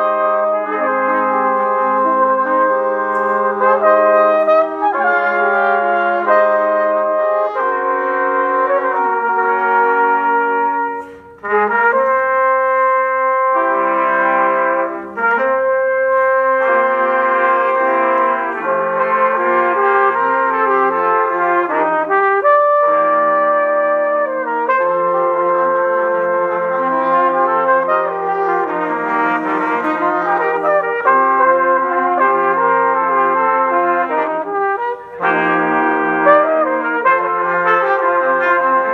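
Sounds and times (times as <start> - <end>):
trumpet ensemble playing chords: 0.0 - 38.9.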